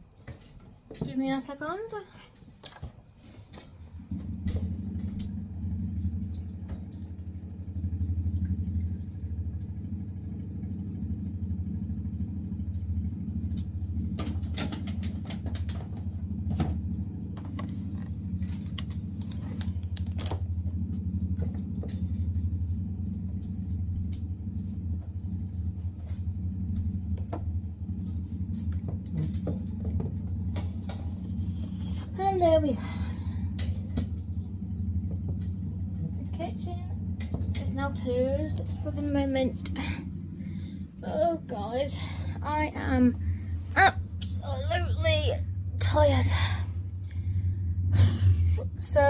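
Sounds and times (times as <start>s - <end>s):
appliance motor humming: 3.5s - 49.0s.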